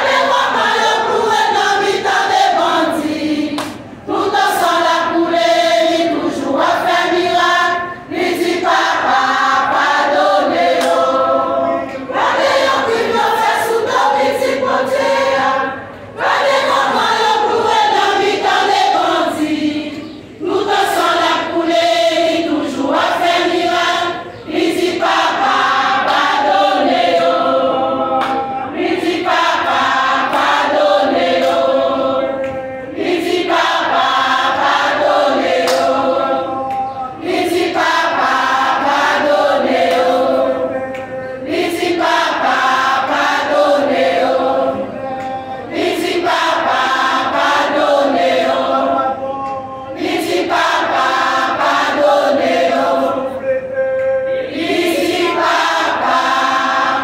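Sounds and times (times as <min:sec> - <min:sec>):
women's choir singing a hymn: 0:00.0 - 0:57.0.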